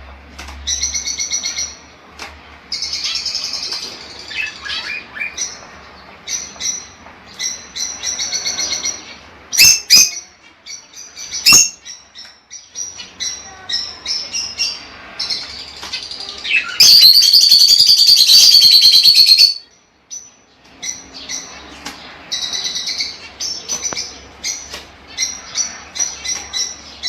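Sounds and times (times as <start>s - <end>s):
lovebirds chirping: 0.6s - 27.0s.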